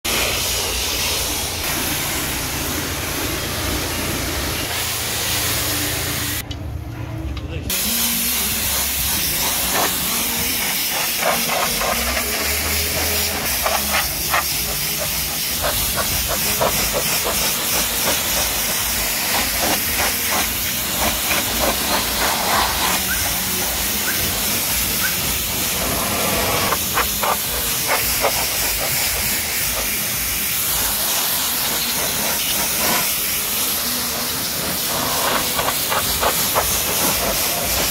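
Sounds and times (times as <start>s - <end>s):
pressure washer spraying car: 0.0s - 6.4s, 7.7s - 37.9s.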